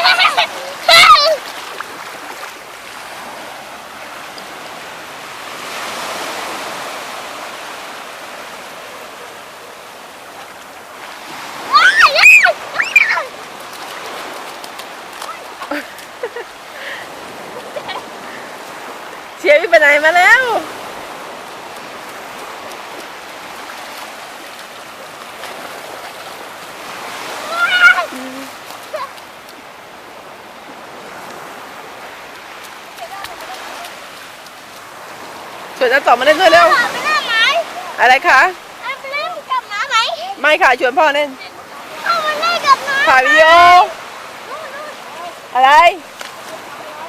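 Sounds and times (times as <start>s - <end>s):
sea waves washing onto shore: 0.0s - 47.0s.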